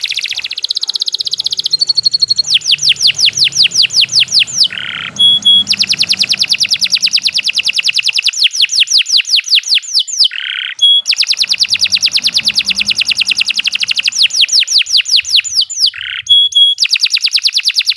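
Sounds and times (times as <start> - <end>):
canary singing trills: 0.0 - 17.9.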